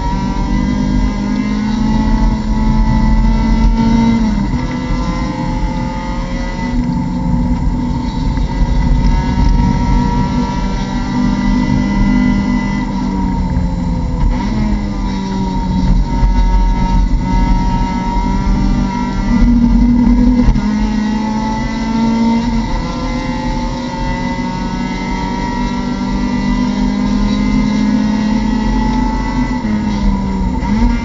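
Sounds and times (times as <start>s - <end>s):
race car engine from cockpit: 0.0s - 31.0s.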